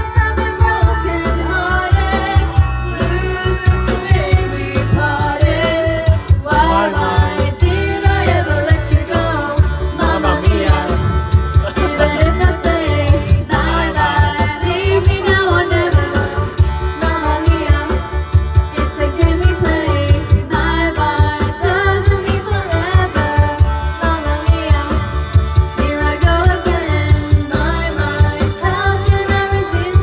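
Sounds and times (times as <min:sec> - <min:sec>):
backing track with steady beat: 0:00.0 - 0:30.0
woman singing into a microphone: 0:00.0 - 0:30.0.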